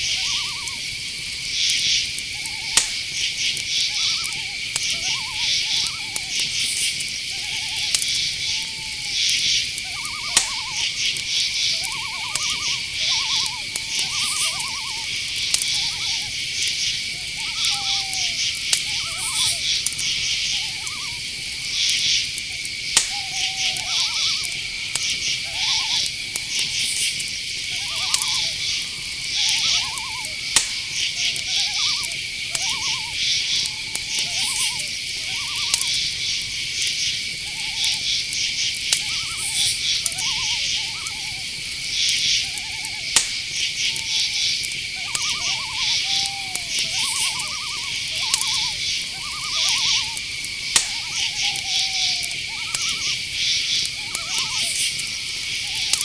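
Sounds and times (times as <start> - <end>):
cricket trill: 0.0 - 56.0
fast pulsed chirping: 0.0 - 56.0
low pulsed insect calls: 0.0 - 56.0
sharp clicks: 1.7 - 8.5, 9.2 - 37.2, 37.8 - 56.0.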